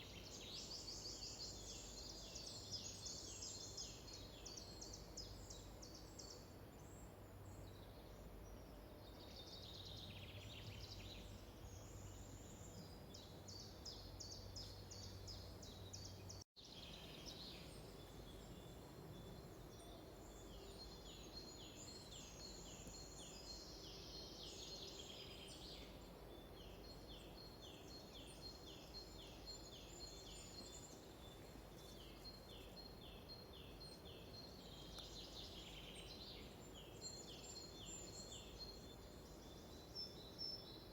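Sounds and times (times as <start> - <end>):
small birds singing: 0.0 - 40.9
soft steady hiss: 0.0 - 40.9.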